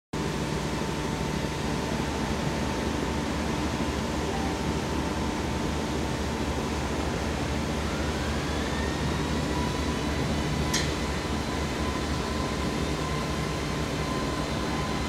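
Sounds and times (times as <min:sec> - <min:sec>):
mechanical hum: 0:00.2 - 0:15.0.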